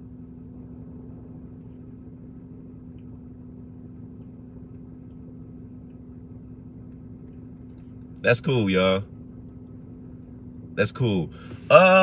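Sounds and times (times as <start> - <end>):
car cabin hum and rumble: 0.0 - 12.0.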